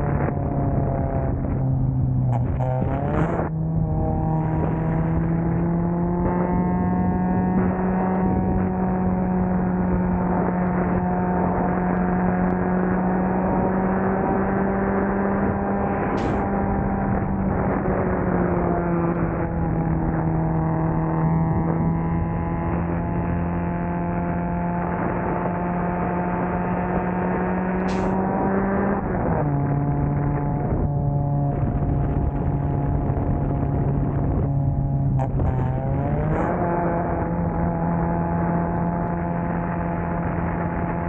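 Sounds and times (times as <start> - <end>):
car engine running steadily: 0.0 - 41.0.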